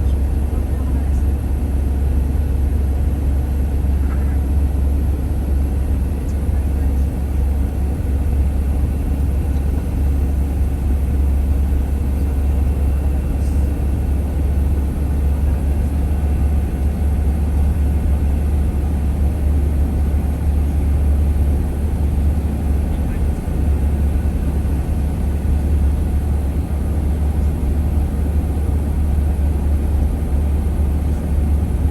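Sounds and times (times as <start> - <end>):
vehicle engine and road noise: 0.0 - 31.9.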